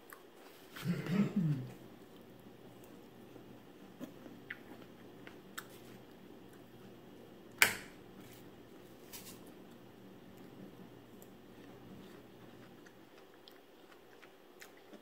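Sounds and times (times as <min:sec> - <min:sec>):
soft chewing: 0:00.0 - 0:07.3, 0:08.2 - 0:15.0.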